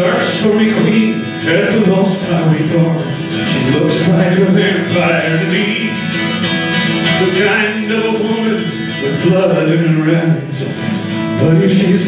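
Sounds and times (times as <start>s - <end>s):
acoustic guitar folk song: 0.0s - 12.0s.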